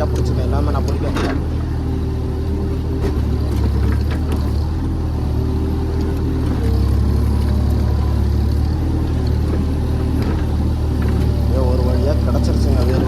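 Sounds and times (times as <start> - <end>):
excavator diesel engine straining: 0.0 - 13.0.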